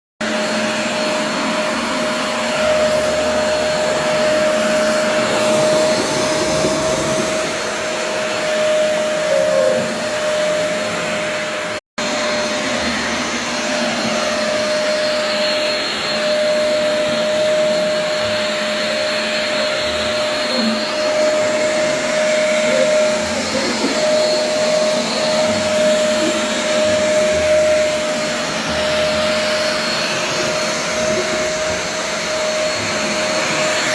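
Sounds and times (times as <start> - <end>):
motor machine whining: 0.3 - 33.9.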